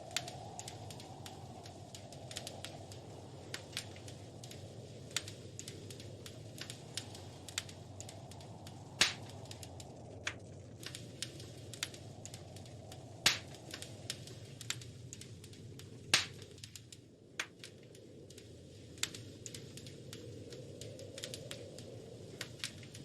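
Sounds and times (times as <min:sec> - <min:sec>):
fire crackling: 0:00.0 - 0:23.0
loud pops from fire: 0:00.0 - 0:23.0
low roar of flames: 0:00.0 - 0:23.0.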